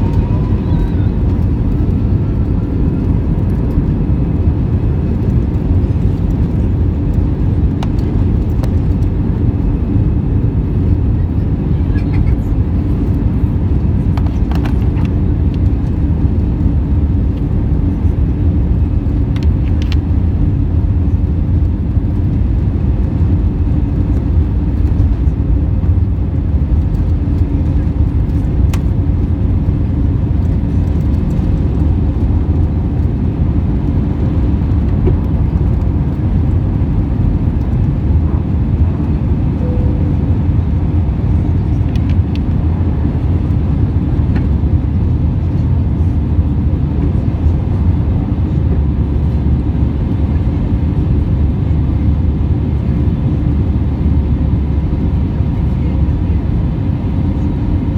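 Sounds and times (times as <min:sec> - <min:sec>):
jet engines at takeoff thrust: 0:00.0 - 0:57.9
low cabin hum: 0:00.0 - 0:57.9
runway rumble: 0:00.0 - 0:57.9.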